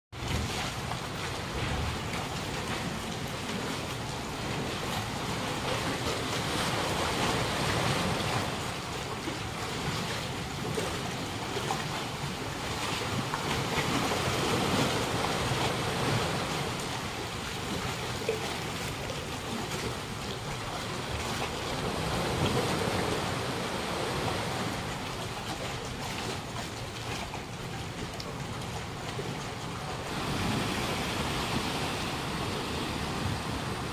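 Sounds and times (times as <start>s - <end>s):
waves lapping against concrete: 0.1s - 33.9s.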